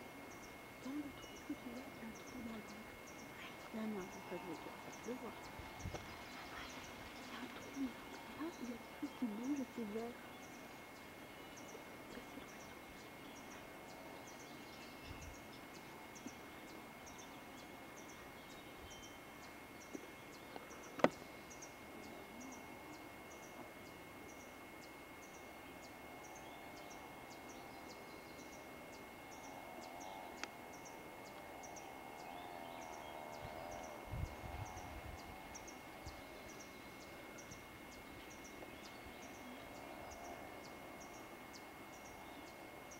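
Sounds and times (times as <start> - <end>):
faint wavering calls: 0.0 - 42.9.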